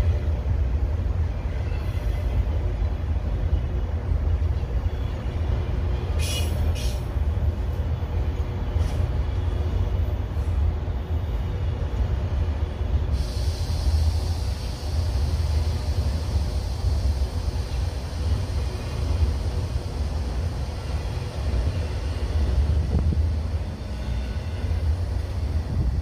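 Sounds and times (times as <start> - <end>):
low rumble of freight train: 0.0 - 26.0.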